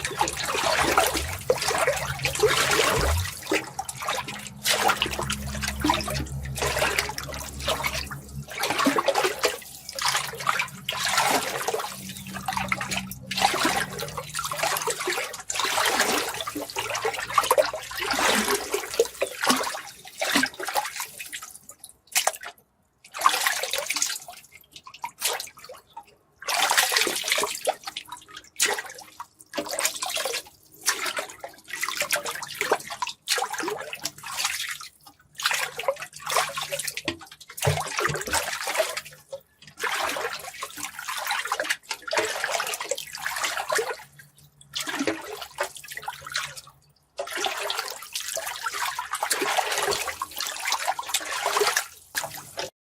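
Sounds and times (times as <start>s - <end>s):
water splashing and pouring: 0.0s - 52.7s.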